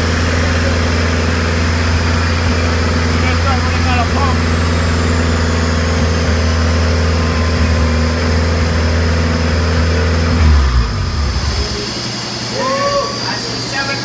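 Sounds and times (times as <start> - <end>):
car engine running on dyno: 0.0 - 14.0.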